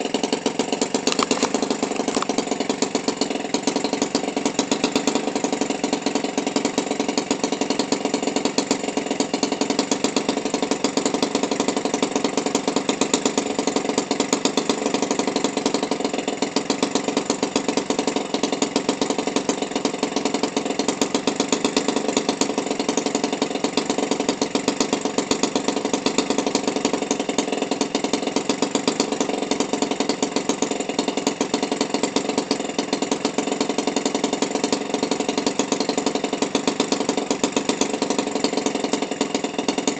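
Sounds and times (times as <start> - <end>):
string trimmer engine idling: 0.0 - 39.9.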